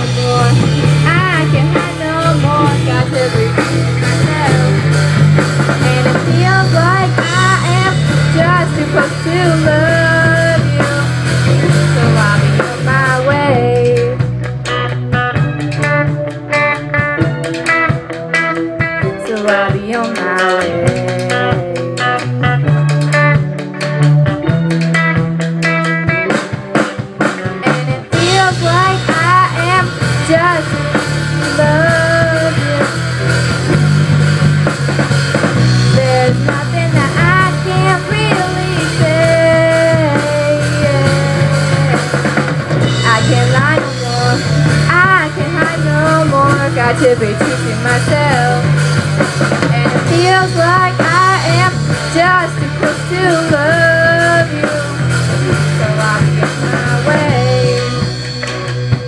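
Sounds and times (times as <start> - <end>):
girl singing lead: 0.0 - 33.9, 35.4 - 58.6
live pop-rock band: 0.0 - 59.0.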